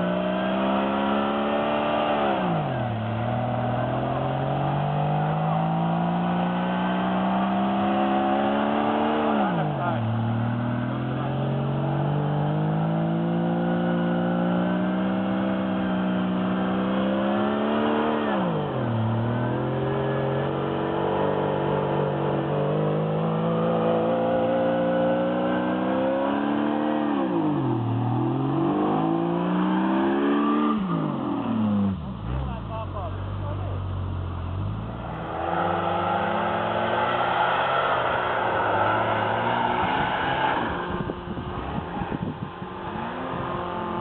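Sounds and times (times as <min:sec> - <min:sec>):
vehicle engine revving hard: 0:00.0 - 0:32.6, 0:34.5 - 0:44.0.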